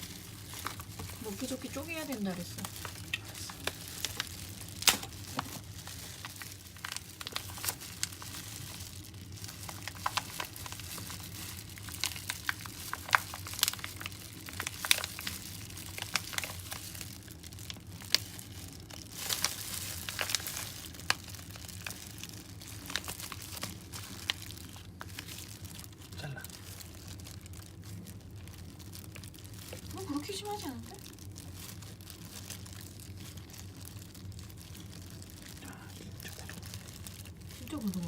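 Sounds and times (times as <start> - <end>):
packaging crinkling: 0.0 - 38.0.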